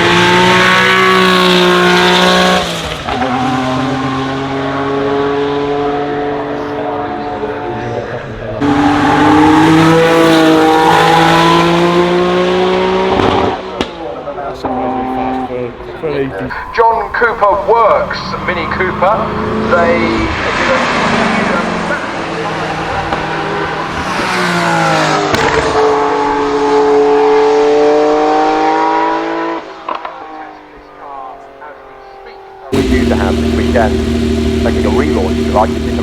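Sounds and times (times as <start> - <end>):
car engine accelerating: 0.0 - 36.0.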